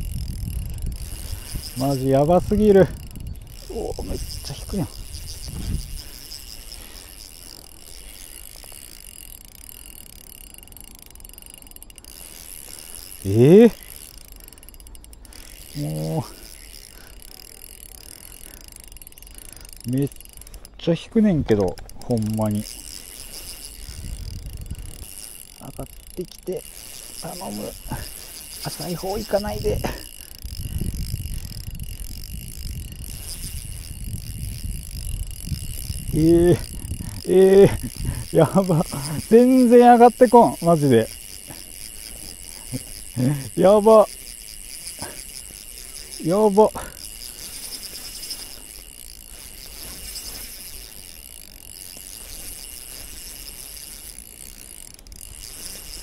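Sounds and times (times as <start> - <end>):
fishing reel drag slipping: 0.0 - 56.0.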